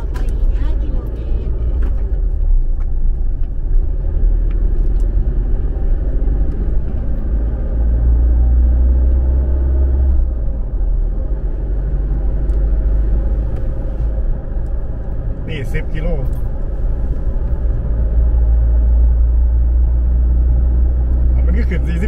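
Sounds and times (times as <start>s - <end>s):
car engine and tyres rumble inside cabin: 0.0s - 22.0s.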